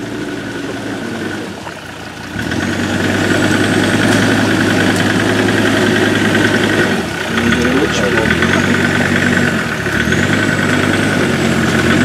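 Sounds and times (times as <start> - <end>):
diesel engine under load: 0.0 - 12.0.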